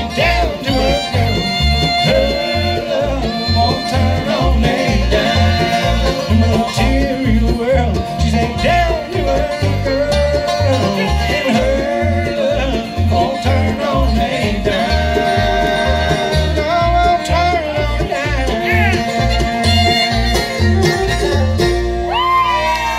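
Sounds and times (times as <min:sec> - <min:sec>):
bluegrass band playing: 0:00.0 - 0:22.9
upright bass line: 0:00.0 - 0:22.9.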